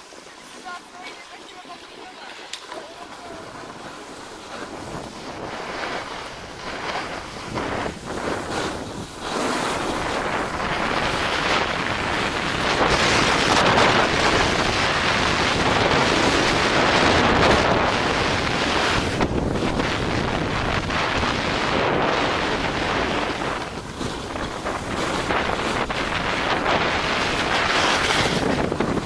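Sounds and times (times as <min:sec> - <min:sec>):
wind rushing over microphone: 0:02.7 - 0:29.0.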